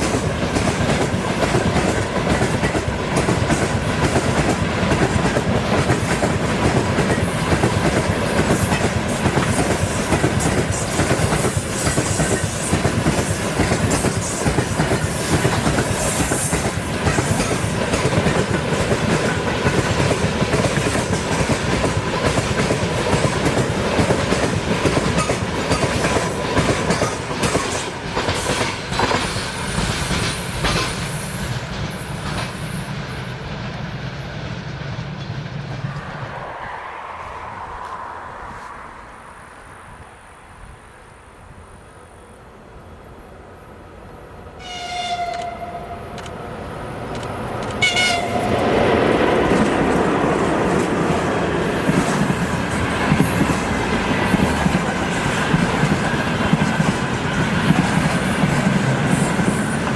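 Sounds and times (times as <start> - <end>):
train wheels clattering on rails: 0.0 - 36.2, 44.6 - 59.9.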